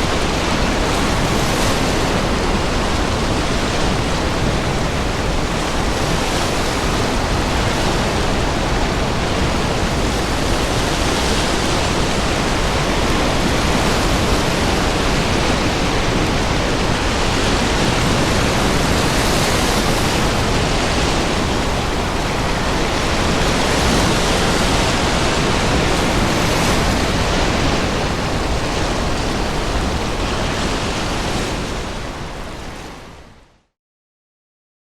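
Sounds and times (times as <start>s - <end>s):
storm waves breaking: 0.0s - 33.4s
wind: 0.0s - 33.7s.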